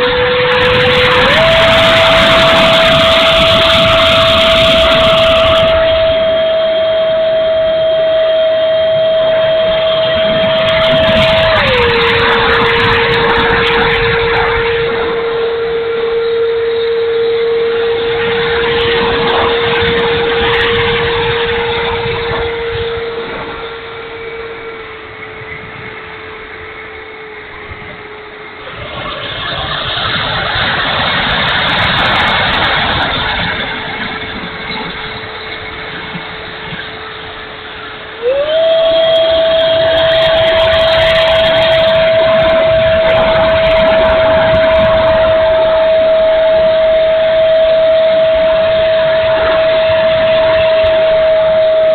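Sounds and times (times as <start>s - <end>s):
electric fan motor whine: 0.0s - 51.9s
wind buffeting microphone: 0.0s - 51.9s.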